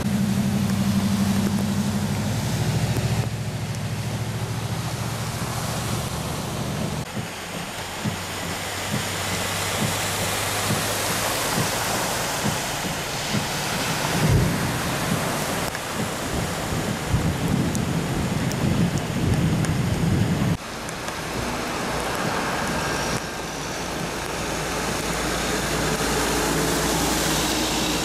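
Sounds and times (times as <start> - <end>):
low thumps and rumbles: 0.0 - 26.1
heavy rain: 0.0 - 28.0
tyres splashing through floodwater: 0.0 - 28.0
van engine humming: 0.0 - 28.0.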